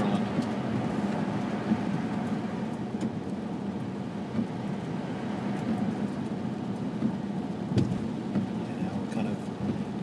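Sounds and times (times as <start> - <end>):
car engine hum: 0.0 - 10.0
tyres on snowy road: 0.0 - 10.0.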